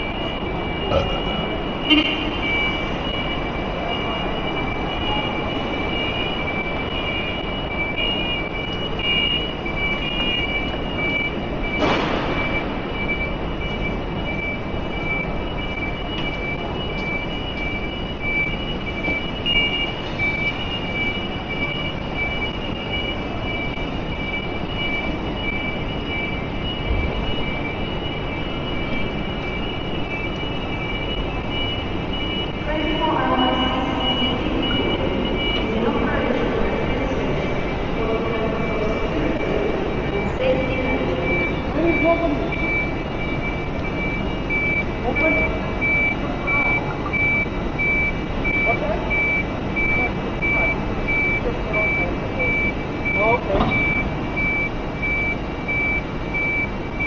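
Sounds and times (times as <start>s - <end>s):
railway station background noise: 0.0s - 57.0s.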